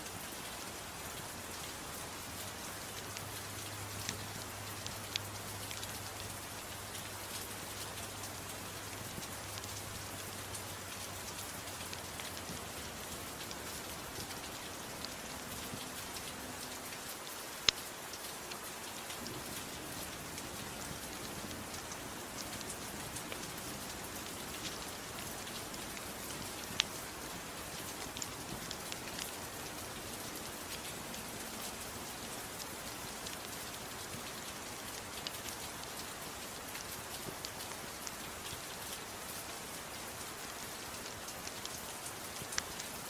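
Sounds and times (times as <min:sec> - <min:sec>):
small crackles and sharp pops: 0:00.0 - 0:43.0
soft rain: 0:00.0 - 0:43.0.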